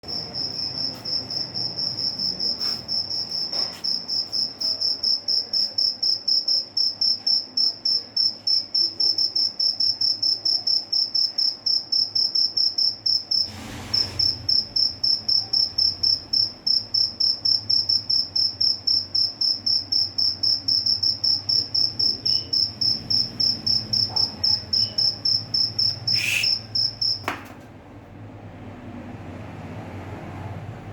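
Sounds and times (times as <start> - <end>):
cricket chirping: 0.0 - 27.3.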